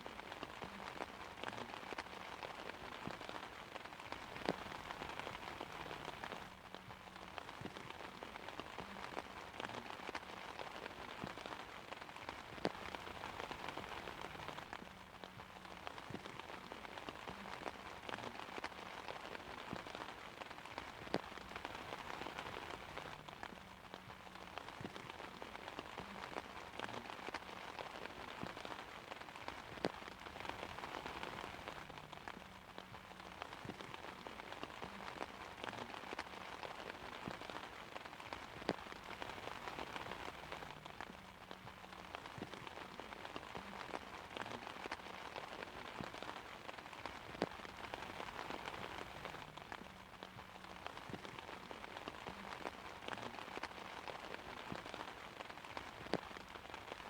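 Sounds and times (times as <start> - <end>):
rain pattering on an umbrella: 0.0 - 57.0.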